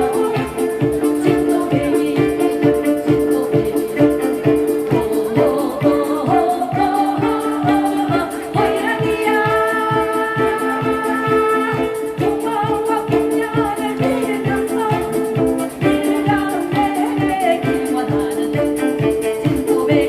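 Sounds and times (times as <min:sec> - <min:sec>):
instrumental melody: 0:00.0 - 0:20.0
steady drum beat: 0:00.0 - 0:20.0.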